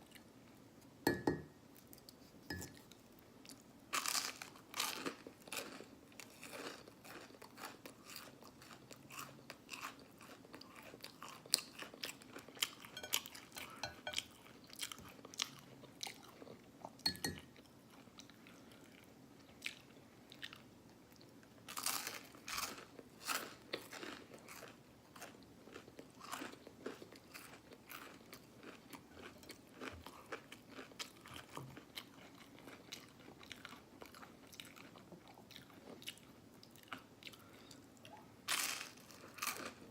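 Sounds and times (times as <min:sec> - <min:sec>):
chewing and crunching: 0:01.8 - 0:39.9.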